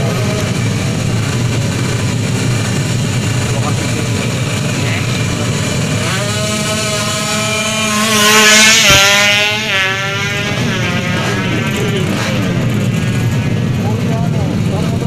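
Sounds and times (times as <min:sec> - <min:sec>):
motorcycle engines accelerating: 0:00.0 - 0:15.0.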